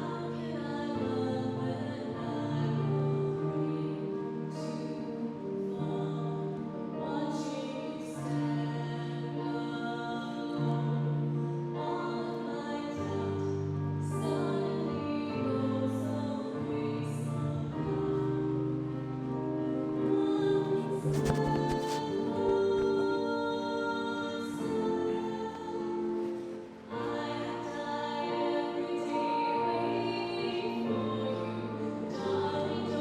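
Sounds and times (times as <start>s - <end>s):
slow music with singing voices: 0.0s - 33.0s.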